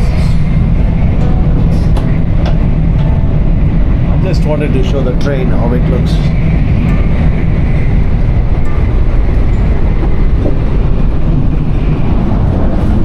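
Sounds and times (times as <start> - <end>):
train passing with low rumble: 0.0 - 13.0.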